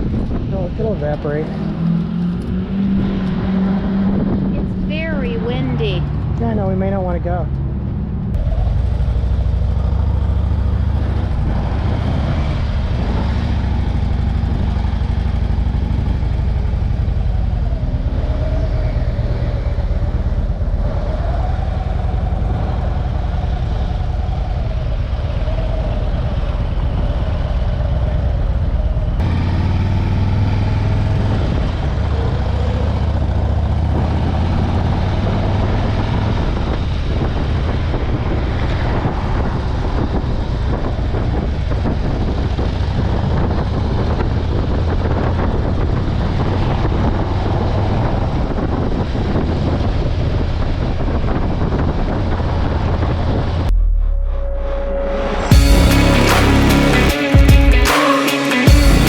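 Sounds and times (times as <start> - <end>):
motorcycle engine running: 0.0 - 54.2, 55.2 - 59.0
wind rumble on microphone: 0.0 - 55.6.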